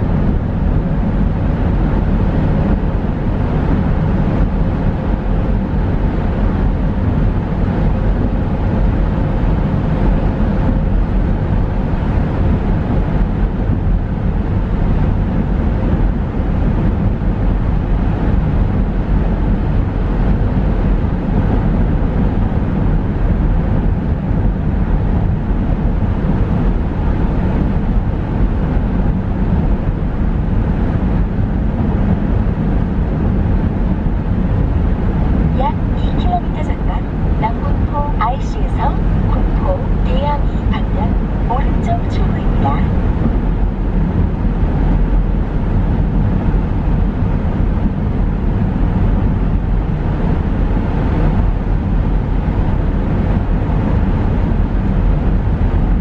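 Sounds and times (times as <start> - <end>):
car road noise in tunnel: 0.0 - 56.0.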